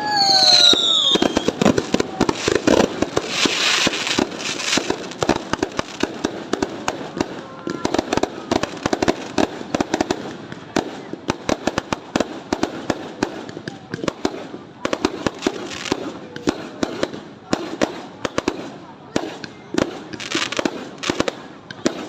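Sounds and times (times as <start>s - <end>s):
fireworks cracking and popping: 0.0s - 22.0s.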